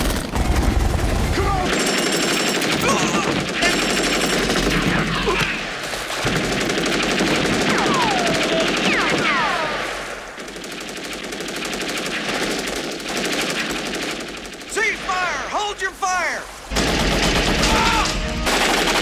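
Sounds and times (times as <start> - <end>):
machine-gun fire: 0.0 - 15.3, 16.7 - 19.0.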